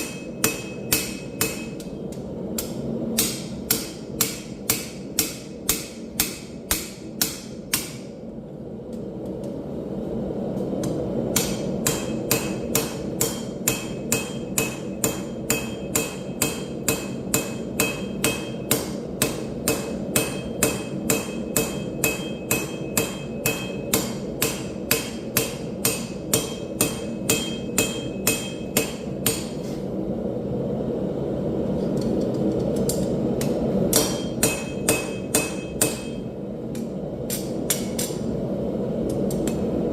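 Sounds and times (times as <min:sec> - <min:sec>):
hammer striking steel on anvil: 0:00.0 - 0:08.2, 0:10.8 - 0:29.7, 0:32.9 - 0:38.3.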